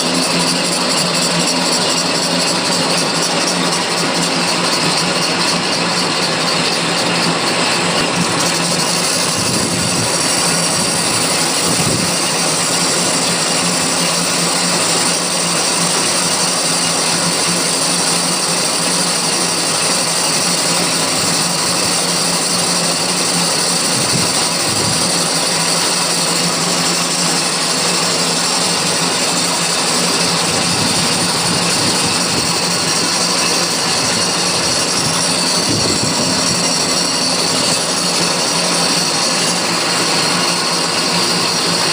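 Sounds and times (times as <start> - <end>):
lathe cutting hiss: 0.0 - 41.9
lathe motor hum: 0.0 - 41.9.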